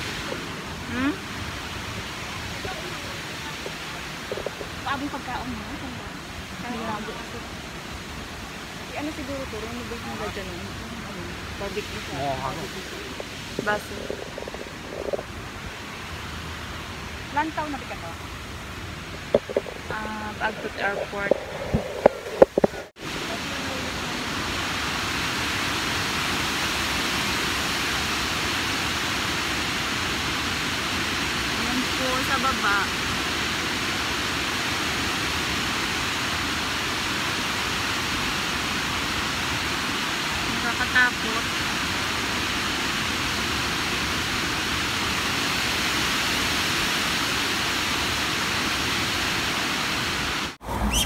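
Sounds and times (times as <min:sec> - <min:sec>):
water rushing over a weir: 0:00.0 - 0:51.0.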